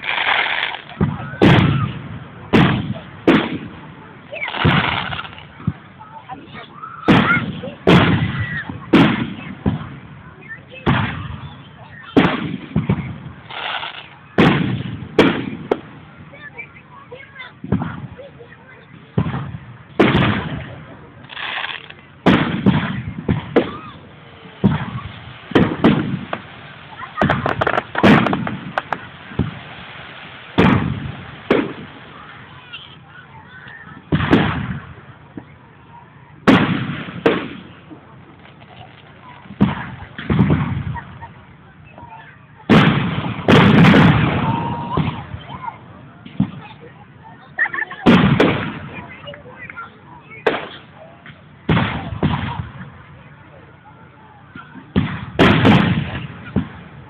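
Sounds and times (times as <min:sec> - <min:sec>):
fireworks bangs with rumbling echo: 0:00.0 - 0:57.0.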